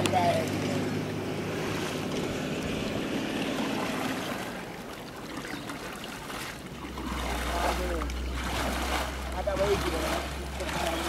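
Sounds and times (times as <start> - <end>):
river water splashing: 0.0 - 11.0.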